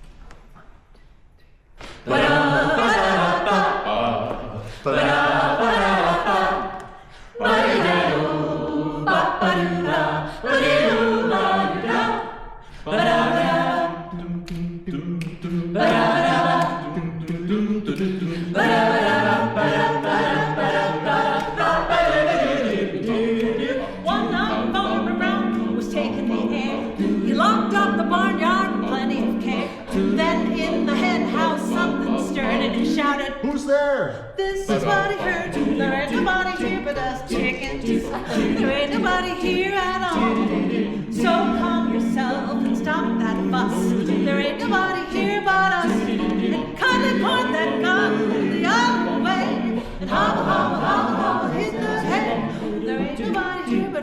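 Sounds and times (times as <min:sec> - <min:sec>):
a cappella group singing in harmony: 0:01.8 - 0:54.0.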